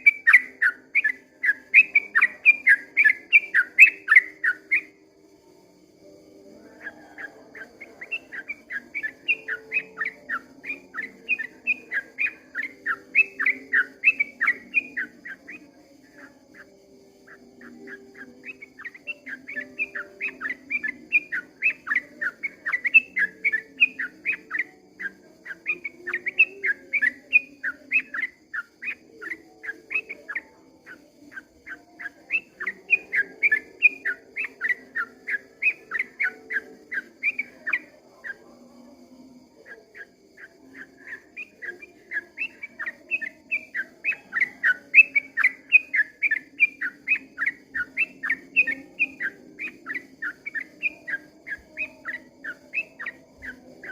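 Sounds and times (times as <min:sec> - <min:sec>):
bird singing rapid chirps: 0:00.0 - 0:53.9.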